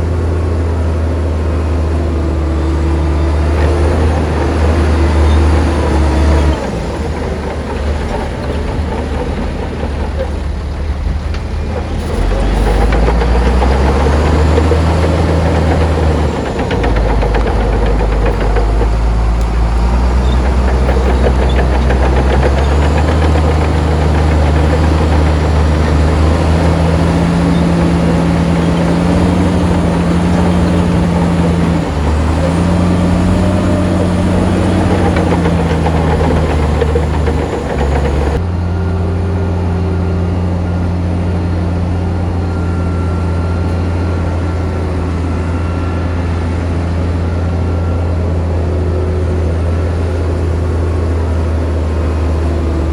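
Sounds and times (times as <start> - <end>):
heavy machine diesel engine: 0.0 - 52.9.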